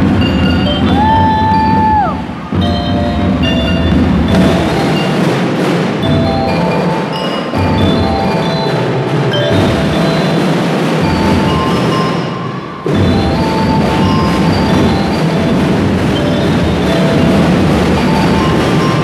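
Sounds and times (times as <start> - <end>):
bell lyres melody: 0.0 - 19.0
steady drum beat: 0.0 - 19.0.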